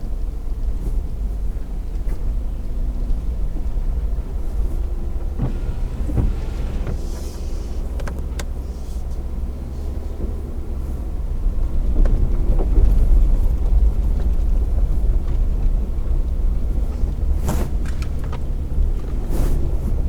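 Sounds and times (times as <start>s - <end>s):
vehicle driving on rough road: 0.0s - 20.0s.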